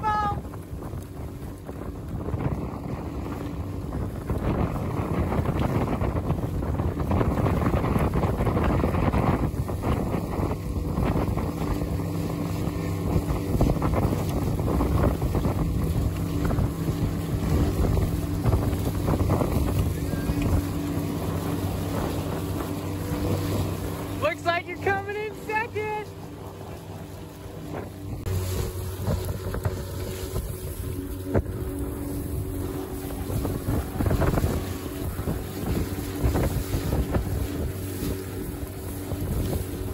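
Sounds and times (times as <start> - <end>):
outboard motor running: 0.0 - 39.9
water splashing against hull: 0.0 - 39.9
wind buffeting microphone: 0.0 - 39.9.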